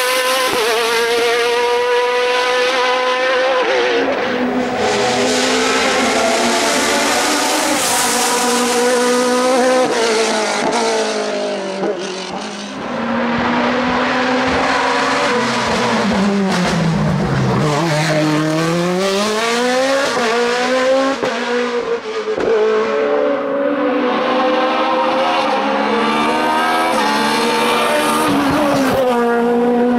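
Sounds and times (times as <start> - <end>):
race car engine at high revs: 0.0 - 29.9.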